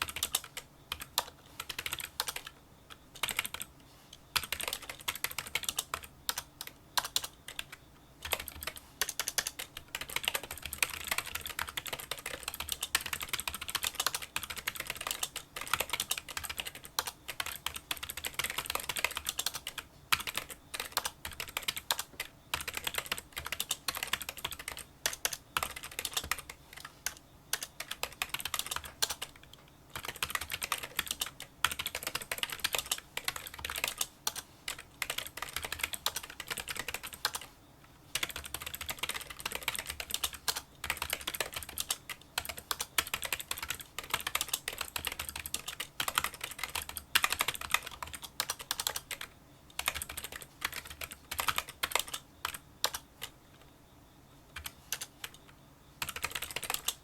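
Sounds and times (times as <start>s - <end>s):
fast keyboard typing: 0.0s - 3.7s, 4.3s - 37.5s, 38.1s - 53.7s, 54.6s - 57.0s.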